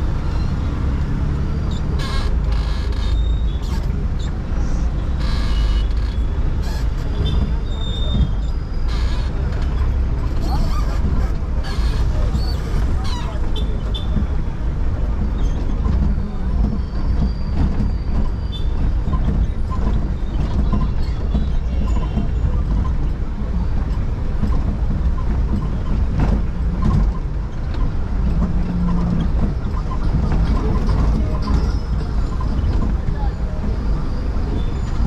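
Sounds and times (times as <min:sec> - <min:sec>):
cars and motorcycles: 0:00.0 - 0:35.0
vehicle rumbling in traffic: 0:00.0 - 0:35.0.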